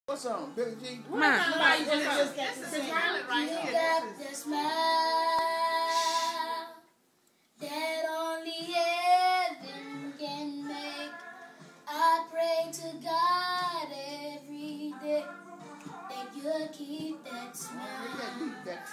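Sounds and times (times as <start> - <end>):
boy singing: 2.2 - 6.9, 7.6 - 18.9.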